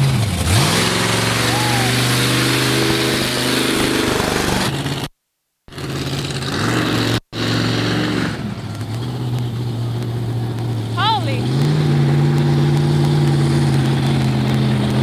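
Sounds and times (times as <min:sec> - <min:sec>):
truck engine droning: 0:00.0 - 0:05.1, 0:05.7 - 0:15.0.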